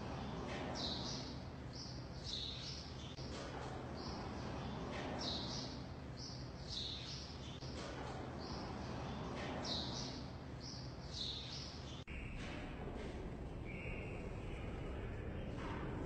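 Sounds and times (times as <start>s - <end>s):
small birds chirping: 0.0s - 12.4s, 13.6s - 15.6s
low background hum: 0.0s - 16.0s.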